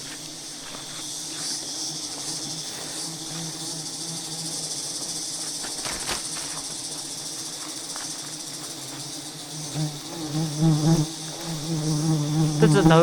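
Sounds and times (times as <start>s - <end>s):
bees buzzing: 0.0s - 13.0s
high insect hiss: 0.0s - 13.0s.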